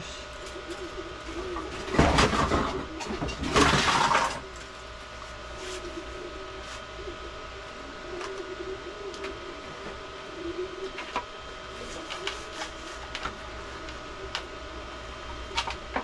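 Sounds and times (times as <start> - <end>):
mechanical hum with wavering tone: 0.0 - 16.0.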